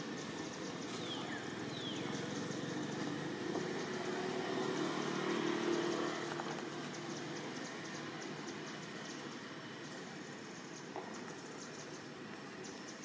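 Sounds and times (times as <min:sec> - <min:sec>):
distant motor vehicle engine drone: 0:00.0 - 0:12.8
outdoor background noise: 0:00.0 - 0:13.0.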